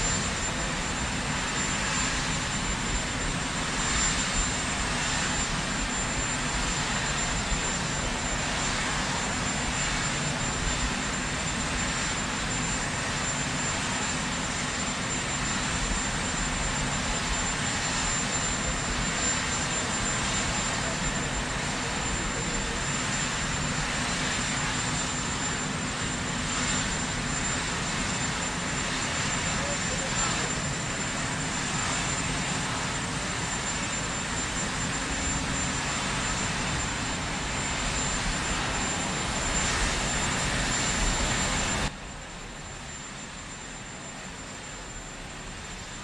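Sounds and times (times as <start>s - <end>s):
helicopter engines and rotor running: 0.0s - 46.0s.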